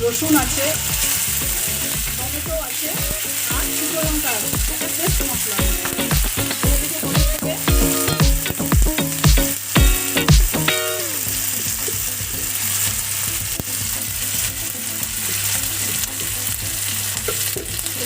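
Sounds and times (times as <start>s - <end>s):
spice paste sizzling in oil: 0.0s - 18.0s
rhythmic music with thumping beat: 0.3s - 18.0s.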